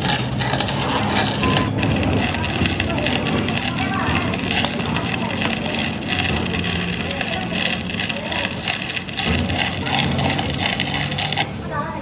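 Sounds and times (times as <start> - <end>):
roadside noise: 0.0 - 12.0.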